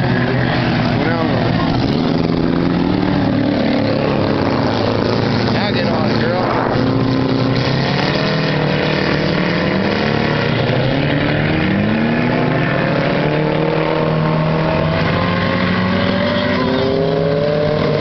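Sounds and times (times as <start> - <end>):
race car engines accelerating: 0.0 - 18.0.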